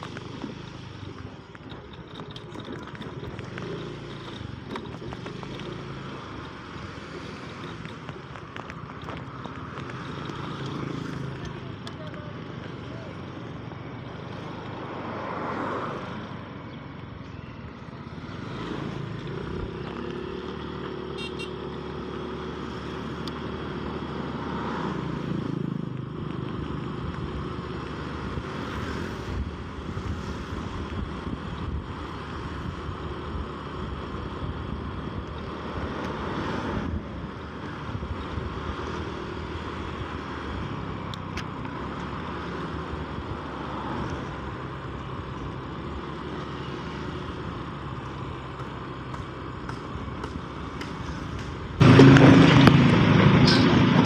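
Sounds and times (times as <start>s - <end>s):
motorcycle riding along road: 0.0s - 54.0s
wind and road noise: 0.0s - 54.0s.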